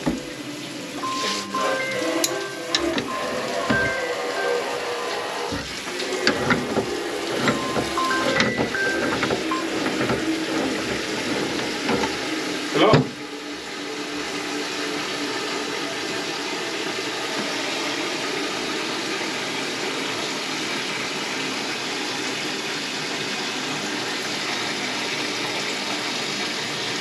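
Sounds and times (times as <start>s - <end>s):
faucet water pouring into sink: 0.0s - 27.0s.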